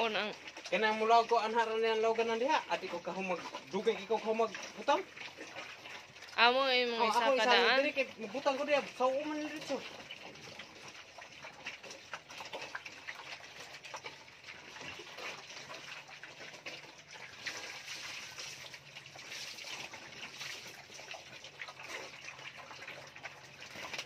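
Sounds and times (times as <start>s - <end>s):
liquid poured over feed: 0.0s - 24.0s
piglets slurping wet feed: 0.0s - 24.0s.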